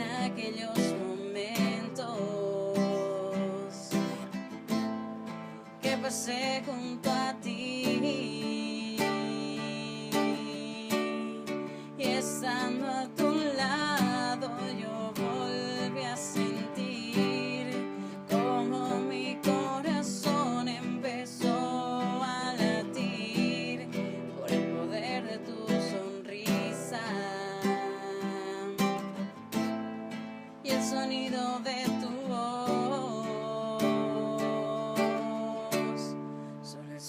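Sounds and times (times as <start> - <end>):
acoustic guitar strumming: 0.0 - 37.0
wordless vocal melody: 0.0 - 37.0.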